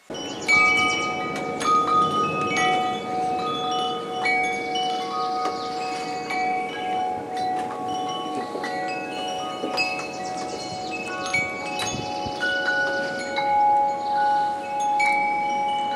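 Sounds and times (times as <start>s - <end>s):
wind chimes ringing: 0.0s - 15.9s.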